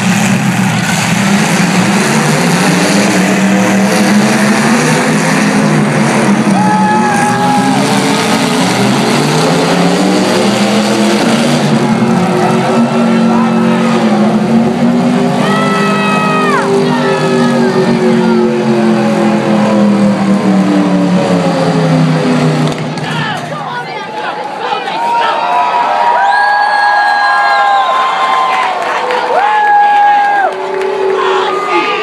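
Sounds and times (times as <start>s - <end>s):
car engines revving: 0.0s - 24.8s, 26.8s - 32.0s.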